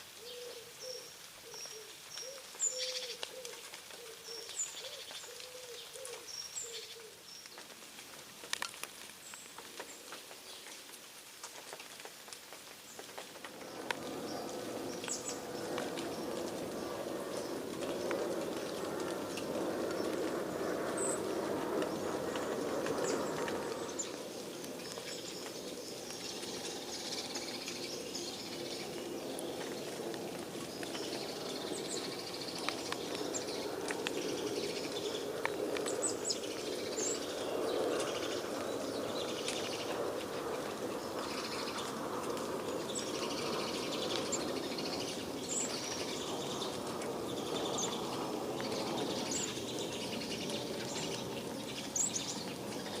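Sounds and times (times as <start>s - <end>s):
birds chirping: 0.2s - 7.7s, 12.8s - 53.0s.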